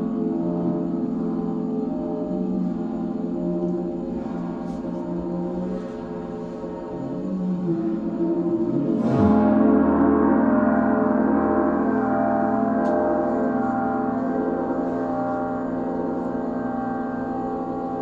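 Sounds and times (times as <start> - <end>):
gong ringing: 0.0 - 18.0.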